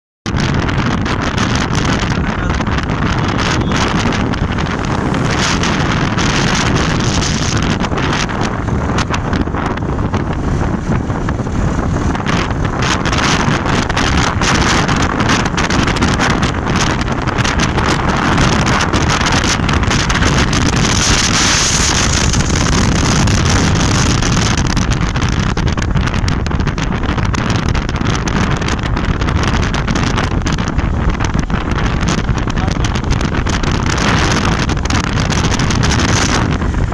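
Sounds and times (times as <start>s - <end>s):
motorcycle ride rushing: 0.3s - 36.9s
wind buffeting microphone: 0.3s - 36.9s.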